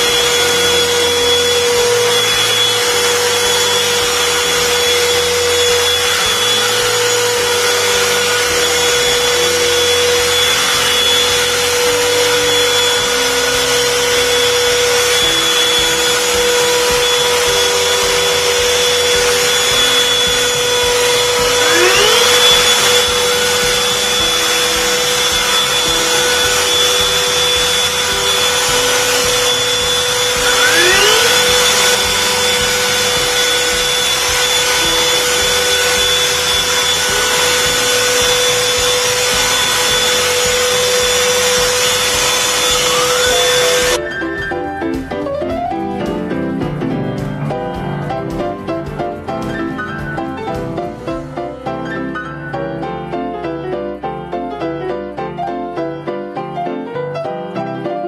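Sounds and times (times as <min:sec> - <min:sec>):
handheld vacuum cleaner whining: 0:00.0 - 0:45.2, 0:48.2 - 0:55.1.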